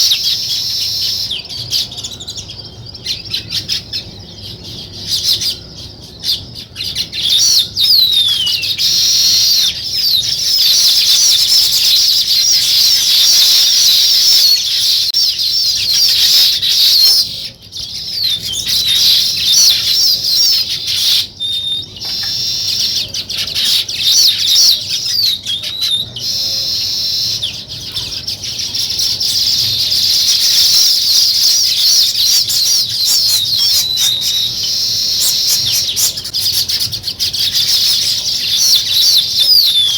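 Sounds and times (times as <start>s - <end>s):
flock of small birds chirping: 0.0s - 39.9s.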